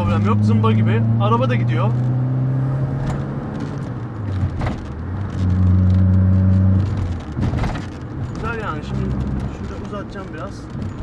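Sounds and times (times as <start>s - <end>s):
car engine droning: 0.0s - 11.0s
road noise: 0.0s - 11.0s.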